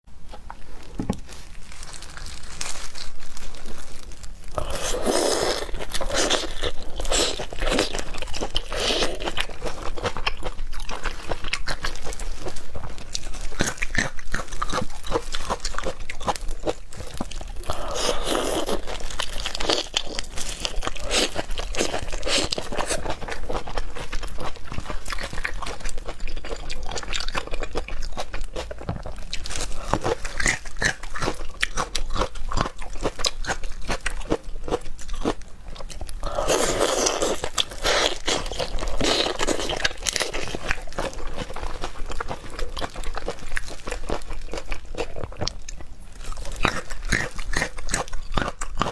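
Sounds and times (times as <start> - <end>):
chewing and crunching seafood: 0.2 - 48.9.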